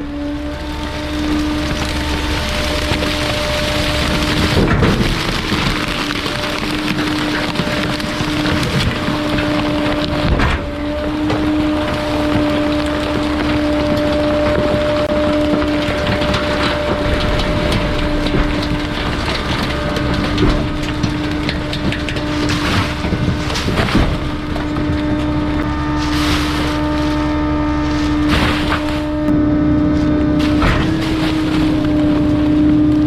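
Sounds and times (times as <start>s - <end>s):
garbage truck hum: 0.0s - 33.0s
material crackling and snapping: 0.5s - 29.4s.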